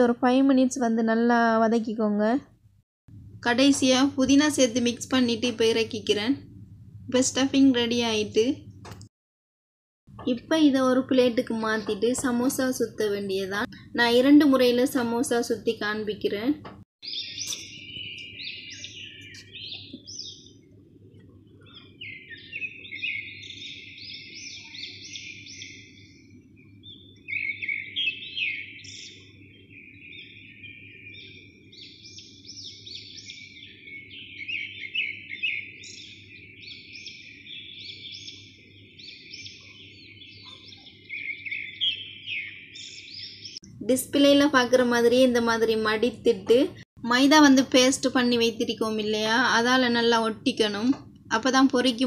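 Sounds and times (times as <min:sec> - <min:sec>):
small birds chirping: 0:03.2 - 0:09.1, 0:10.1 - 0:52.0.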